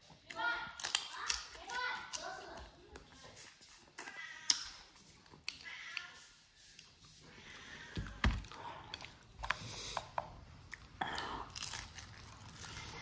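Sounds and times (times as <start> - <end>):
person chewing and crunching: 0.0 - 5.7, 8.0 - 13.0.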